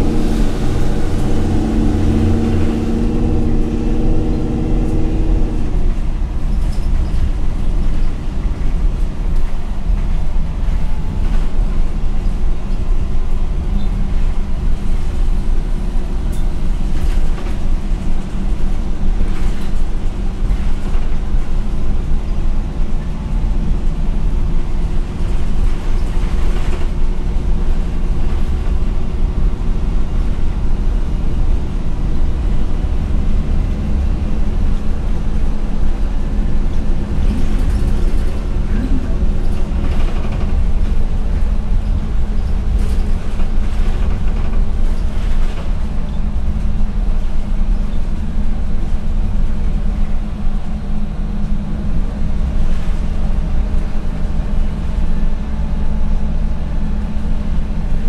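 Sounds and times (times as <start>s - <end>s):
bus engine drone: 0.0s - 58.0s
low road rumble: 0.0s - 58.0s.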